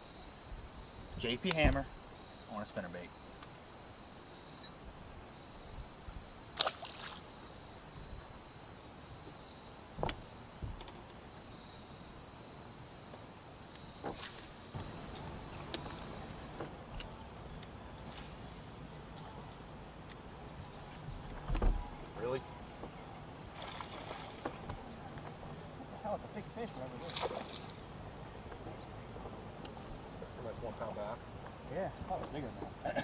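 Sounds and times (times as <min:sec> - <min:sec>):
insects trilling: 0:00.0 - 0:33.0
low outdoor hiss: 0:00.0 - 0:33.0.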